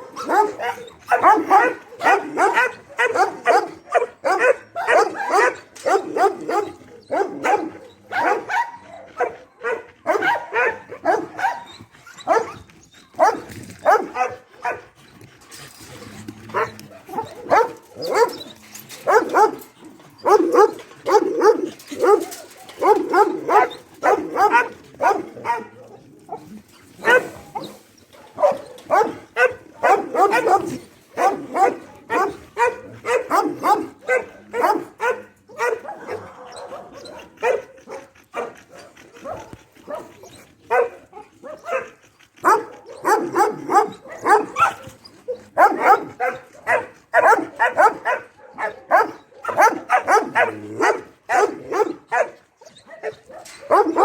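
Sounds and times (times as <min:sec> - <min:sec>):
dog barking: 0:00.0 - 0:11.7, 0:12.3 - 0:12.6, 0:13.2 - 0:14.8, 0:16.5 - 0:18.4, 0:19.0 - 0:19.6, 0:20.2 - 0:26.4, 0:27.0 - 0:40.1, 0:40.7 - 0:44.9, 0:45.6 - 0:54.0.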